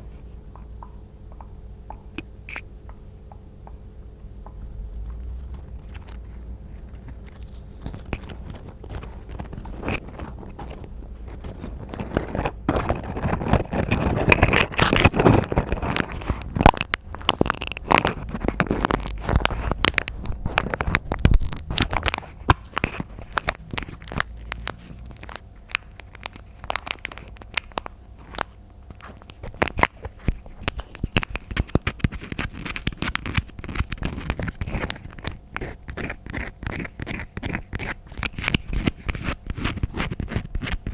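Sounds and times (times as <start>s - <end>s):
scratching and crackling: 4.4s - 40.9s.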